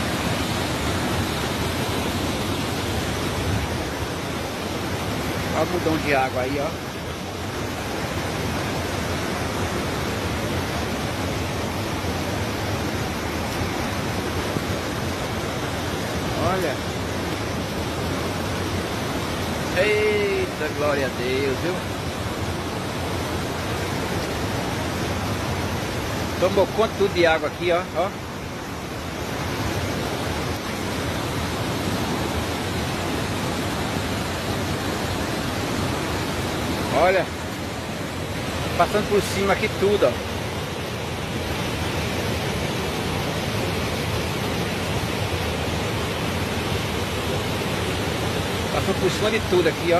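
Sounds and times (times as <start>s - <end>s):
flooded creek rushing: 0.0s - 49.9s.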